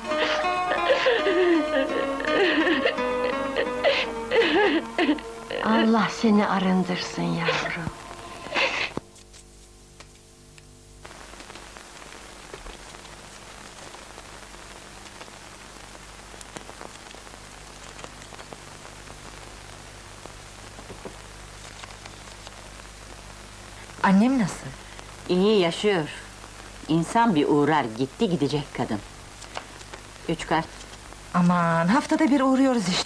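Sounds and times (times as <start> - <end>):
film hiss with crackle: 0.0 - 33.0
low mains hum: 0.0 - 33.0.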